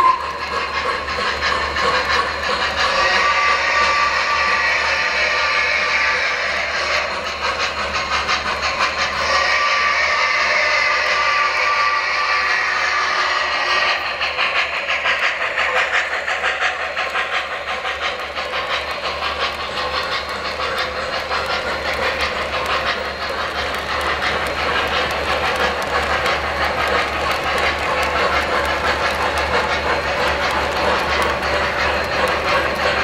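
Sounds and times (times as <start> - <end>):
model train wheels clicking: 0.0 - 33.0.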